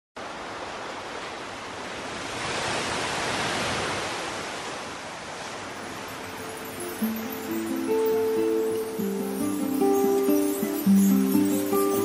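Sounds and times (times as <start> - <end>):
ocean waves washing: 0.2 - 12.0.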